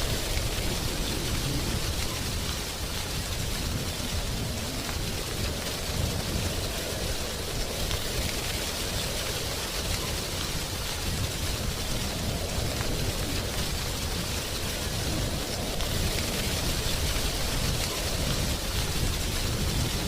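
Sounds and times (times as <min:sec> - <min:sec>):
wind rustling dry leaves: 0:00.0 - 0:20.0.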